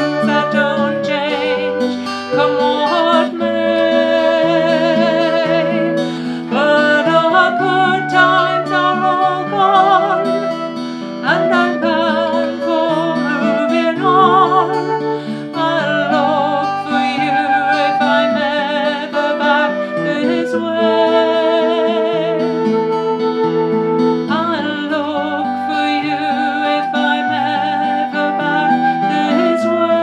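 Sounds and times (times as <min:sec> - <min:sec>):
flute melody: 0:00.0 - 0:30.0
strummed acoustic guitar: 0:00.0 - 0:30.0
woman singing folk song: 0:00.0 - 0:30.0.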